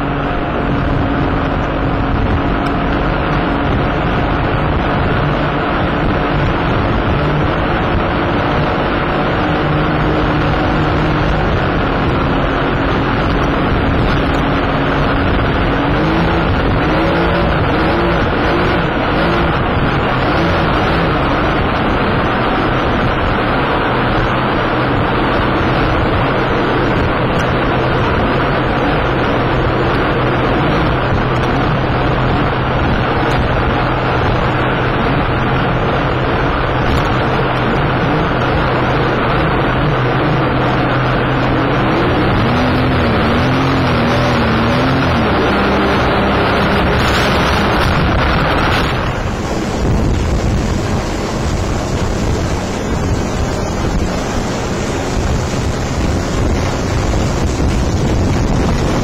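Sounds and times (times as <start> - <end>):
boat crashing through waves: 0.0 - 59.0
outboard engines running: 0.0 - 59.0
wind rushing on microphone: 0.0 - 59.0.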